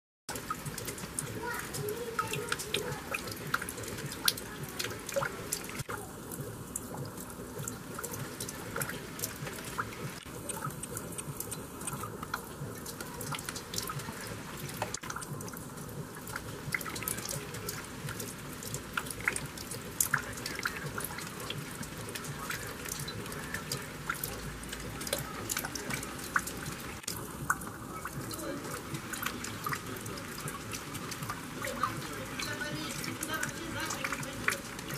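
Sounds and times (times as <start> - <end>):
raindrops dripping and tapping: 0.3 - 34.9.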